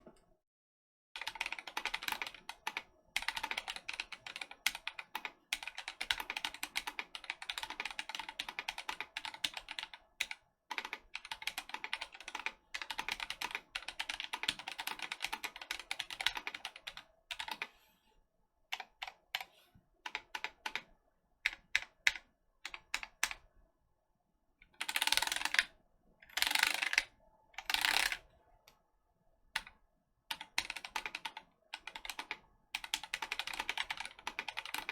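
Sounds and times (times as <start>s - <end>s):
mechanical keyboard typing: 1.2s - 17.7s, 18.7s - 20.9s, 21.5s - 23.4s, 24.7s - 28.3s, 29.6s - 34.9s.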